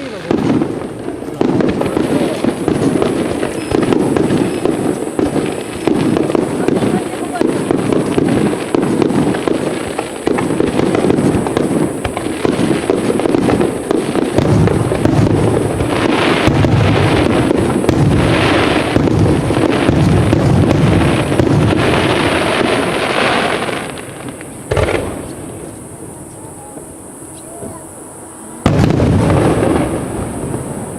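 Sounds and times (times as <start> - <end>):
crackling firework shells: 0.0 - 30.9
fireworks bangs: 0.0 - 30.9.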